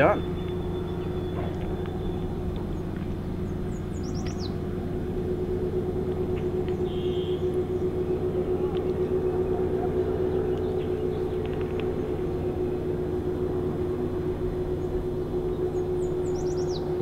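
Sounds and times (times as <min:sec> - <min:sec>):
bird chirps: 0:00.0 - 0:04.7, 0:06.0 - 0:17.0
engine-like drone: 0:00.0 - 0:17.0.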